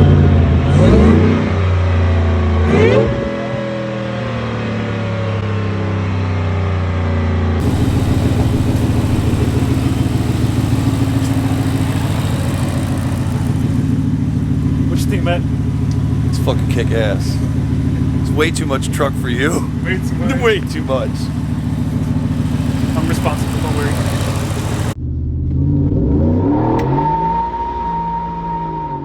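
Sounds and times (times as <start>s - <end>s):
engine revving: 0.0s - 3.6s, 7.6s - 27.8s
engine running with low pulsing note: 0.0s - 29.0s.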